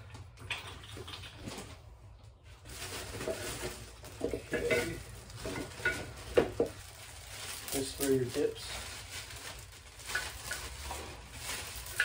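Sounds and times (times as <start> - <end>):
plastic wrapping rustling: 1.2 - 12.0.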